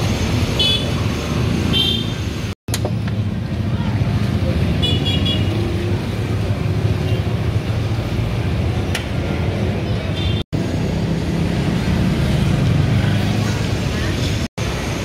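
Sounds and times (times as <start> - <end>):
street traffic roar: 0.0 - 15.0.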